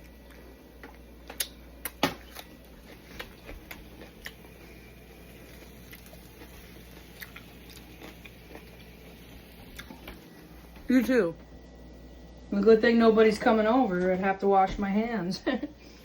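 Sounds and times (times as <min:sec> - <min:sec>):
low steady background hum: 0:00.0 - 0:16.0.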